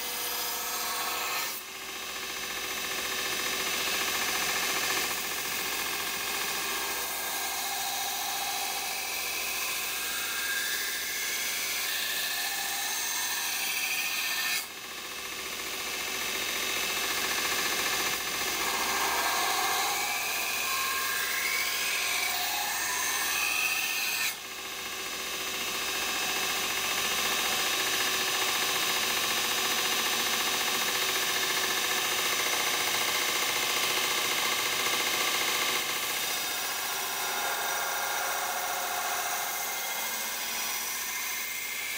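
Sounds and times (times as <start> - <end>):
belt grinder grinding steel blade: 3.2 - 14.8, 15.9 - 29.3, 30.6 - 41.9.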